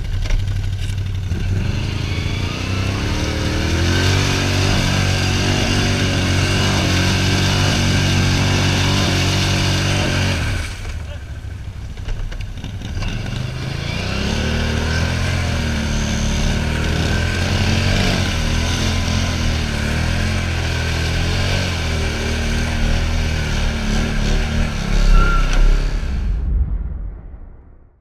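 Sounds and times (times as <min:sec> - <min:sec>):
atv engine revving: 0:00.0 - 0:26.3.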